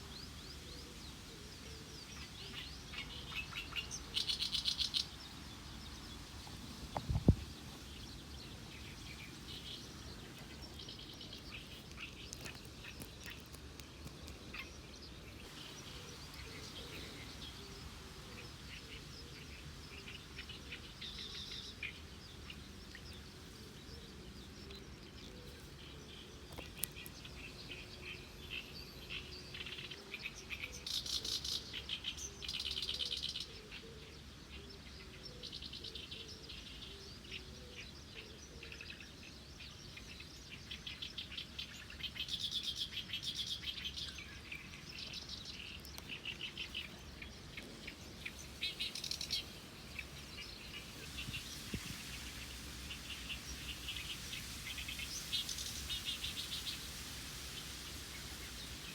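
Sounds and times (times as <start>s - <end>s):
small birds chirping and singing: 0.0s - 58.9s.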